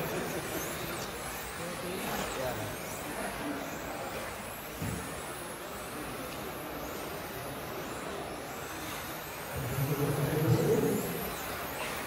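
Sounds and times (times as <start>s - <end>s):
background hubbub: 0.0s - 12.0s
electric motors whining: 0.0s - 12.0s.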